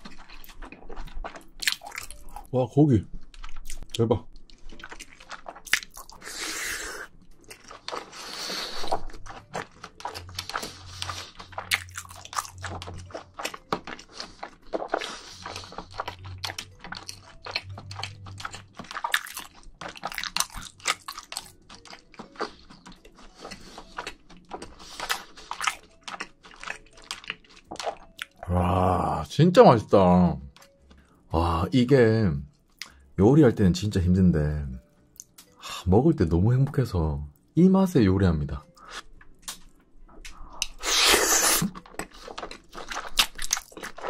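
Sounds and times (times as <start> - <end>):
wet chewing of noodles: 0.0 - 29.4, 30.0 - 31.6, 32.5 - 33.2, 38.6 - 44.0.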